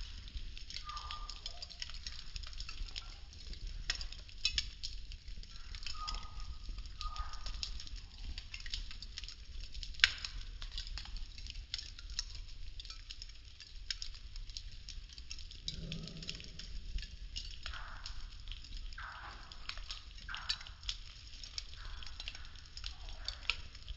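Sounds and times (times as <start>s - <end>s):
wooden sticks crackling in fire: 0.0s - 23.9s.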